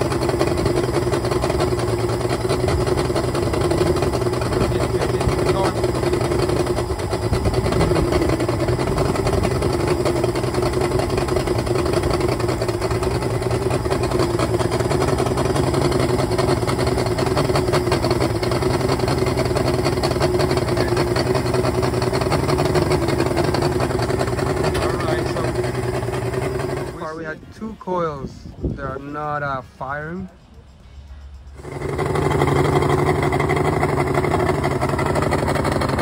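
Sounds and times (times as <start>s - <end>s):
outboard motor running rough: 0.0s - 30.4s, 31.2s - 36.0s.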